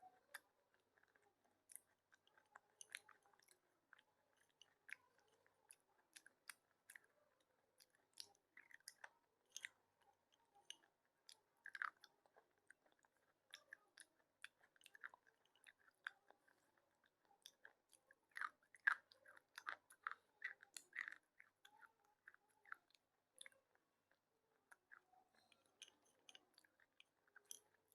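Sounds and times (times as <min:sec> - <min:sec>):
pencil being chewed crunching: 0:00.0 - 0:27.9.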